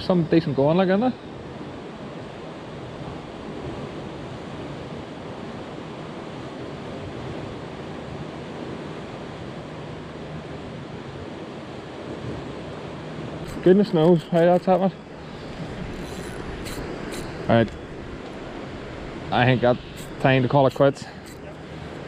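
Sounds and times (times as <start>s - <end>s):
rushing water: 0.0s - 22.0s
wind: 0.0s - 22.0s.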